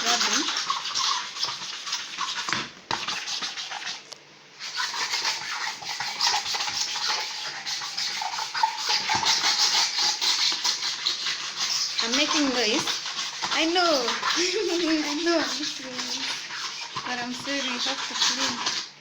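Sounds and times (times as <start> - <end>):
scrubber scrubbing fridge: 0.0 - 19.0.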